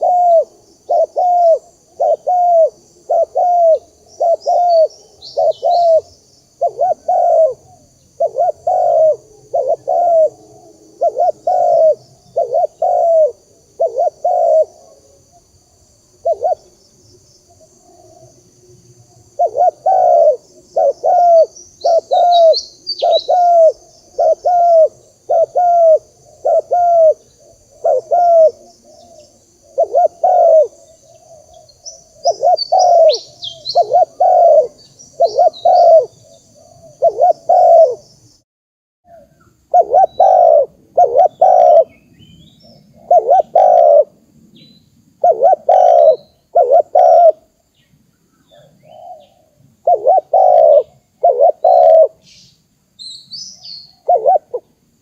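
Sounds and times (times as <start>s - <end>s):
small birds chirping: 0.0s - 10.4s, 11.0s - 18.5s, 19.1s - 38.4s, 39.1s - 55.0s
dove cooing: 0.0s - 15.4s, 16.2s - 16.8s, 17.5s - 18.5s, 19.2s - 38.1s, 39.1s - 42.0s, 42.6s - 44.2s, 45.2s - 47.5s, 48.5s - 52.2s, 53.6s - 54.8s.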